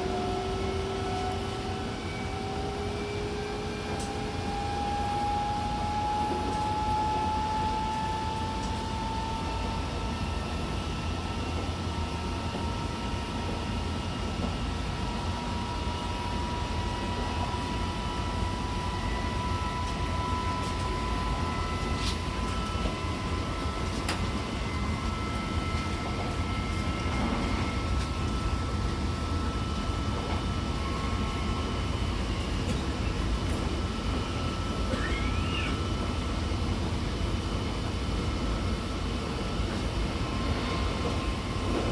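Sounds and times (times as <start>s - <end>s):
train wheels rumbling on track: 0.0s - 41.9s.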